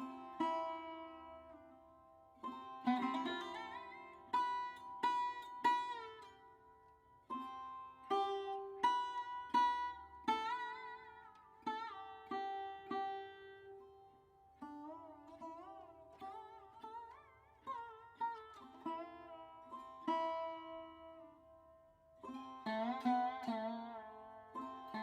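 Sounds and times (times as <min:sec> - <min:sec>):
plucked string instrument melody: 0:00.0 - 0:25.0.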